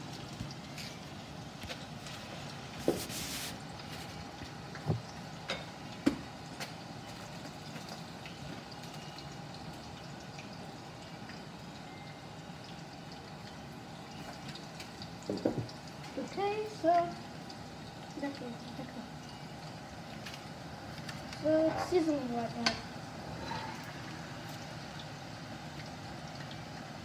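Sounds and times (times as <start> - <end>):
oil hissing in a pan: 0.0 - 27.0.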